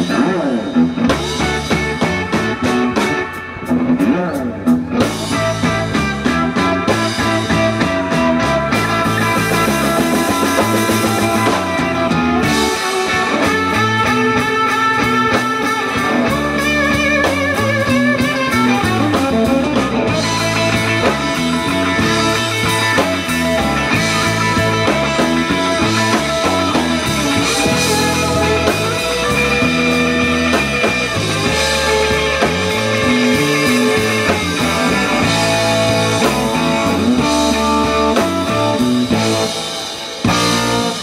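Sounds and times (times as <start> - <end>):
bass guitar: 0.0 - 41.0
drums: 0.0 - 41.0
electric guitar: 0.0 - 41.0.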